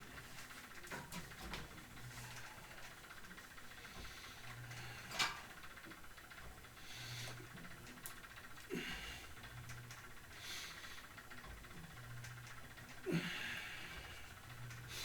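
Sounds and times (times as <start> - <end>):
person breathing rhythmically: 2.0 - 5.8, 6.6 - 15.0.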